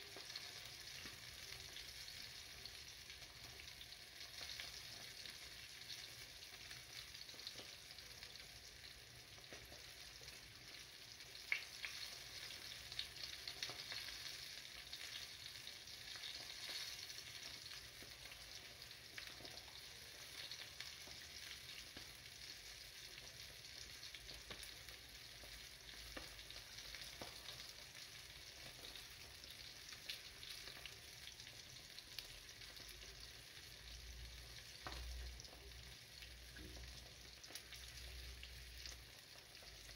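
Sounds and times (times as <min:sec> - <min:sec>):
fish sizzling in oil: 0:00.0 - 0:39.9
small crackles and pops: 0:00.0 - 0:39.9.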